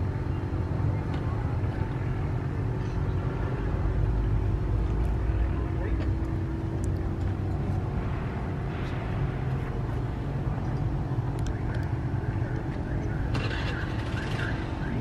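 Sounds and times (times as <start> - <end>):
faint steady hum: 0.0 - 15.0
low outdoor rumble: 0.0 - 15.0.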